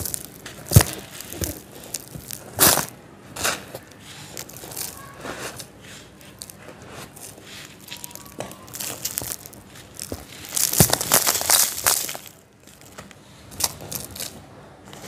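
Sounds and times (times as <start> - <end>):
crumbs falling crackles: 0.0 - 14.4.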